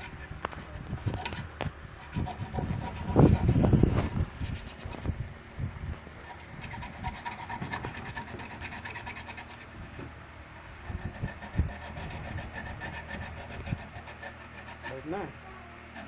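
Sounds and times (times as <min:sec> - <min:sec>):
scraping and rubbing: 0:00.0 - 0:05.2, 0:06.0 - 0:10.1, 0:10.8 - 0:15.3
steady low hum: 0:00.0 - 0:16.0.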